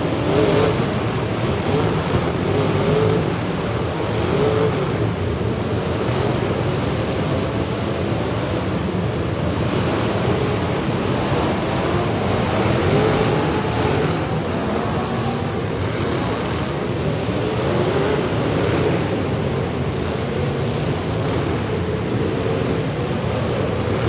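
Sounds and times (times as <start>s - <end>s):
car engines roaring: 0.0s - 24.0s
engine revving: 0.0s - 24.0s.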